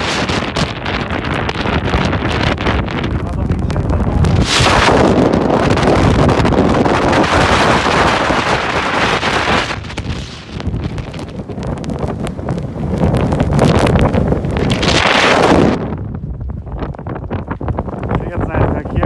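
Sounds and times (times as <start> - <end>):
strong wind on microphone: 0.0 - 19.0.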